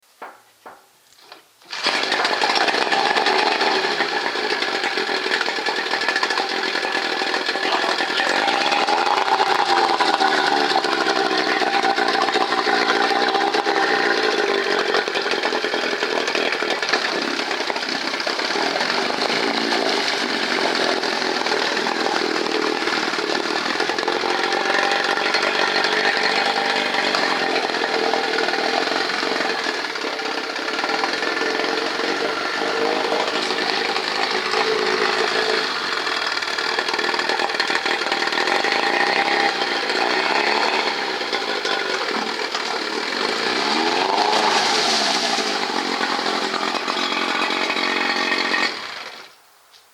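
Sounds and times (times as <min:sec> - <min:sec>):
outboard engine running: 0:01.7 - 0:49.3.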